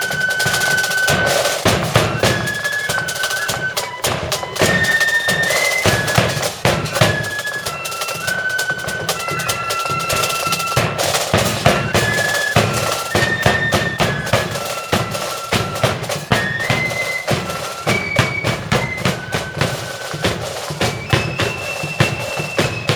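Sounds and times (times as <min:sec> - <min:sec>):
flute melody: 0:00.0 - 0:22.9
snare and bass drums marching: 0:00.0 - 0:22.9.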